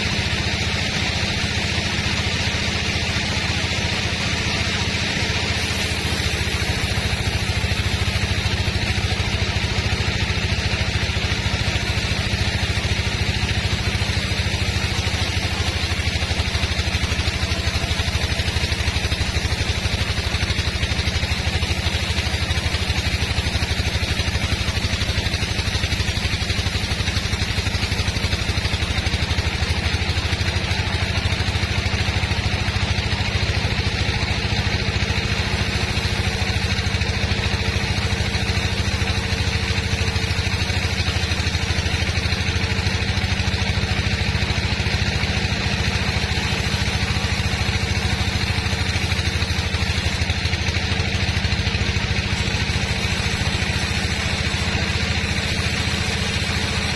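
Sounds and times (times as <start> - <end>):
sawmill machinery droning: 0.0 - 56.9.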